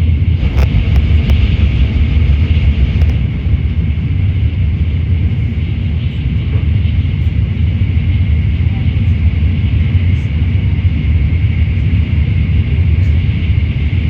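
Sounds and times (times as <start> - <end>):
high-speed train rumbling: 0.0 - 14.0.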